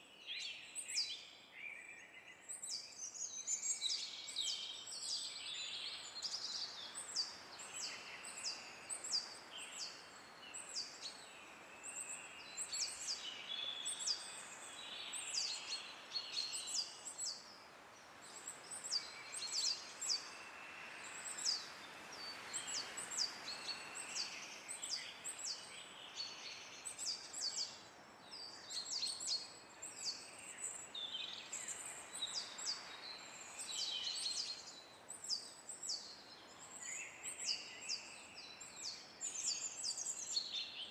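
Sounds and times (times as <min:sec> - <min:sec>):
songbirds chirping: 0:00.0 - 0:40.9
wind hissing in trees: 0:00.0 - 0:40.9.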